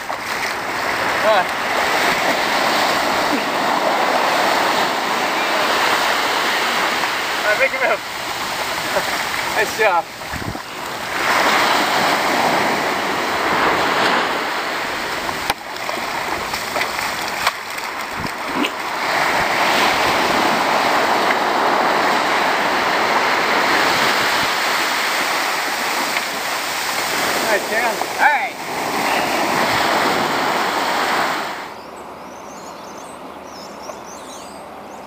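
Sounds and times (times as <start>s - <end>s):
waves breaking on beach: 0.0s - 31.8s.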